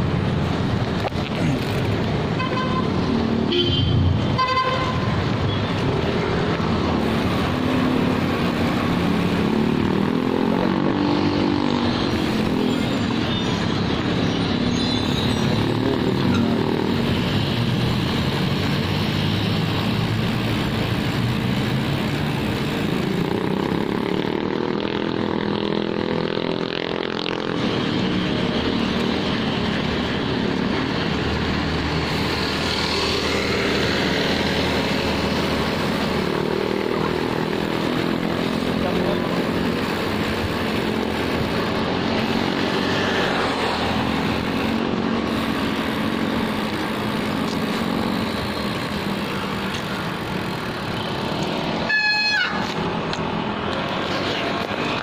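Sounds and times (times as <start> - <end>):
vehicle engine: 0.0 - 55.0
wind and road noise: 0.0 - 55.0.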